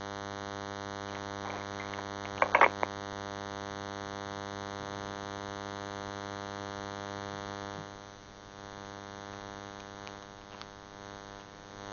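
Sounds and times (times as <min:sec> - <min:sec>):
electrical mains hum: 0:00.0 - 0:11.9.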